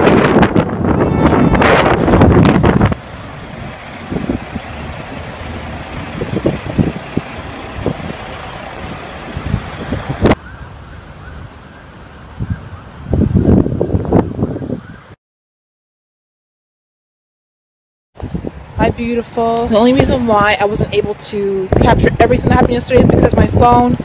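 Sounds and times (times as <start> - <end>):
outdoor rush: 0.0 - 15.2, 18.2 - 24.0
wind buffeting microphone: 0.0 - 15.2, 18.2 - 24.0.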